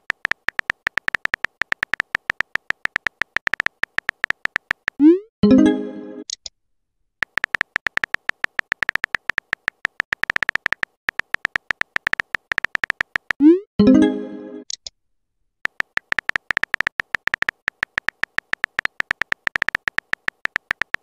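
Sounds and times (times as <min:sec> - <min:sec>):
keyboard typing clicks with beeps: 0:00.0 - 0:05.3, 0:07.2 - 0:13.7, 0:15.6 - 0:21.0.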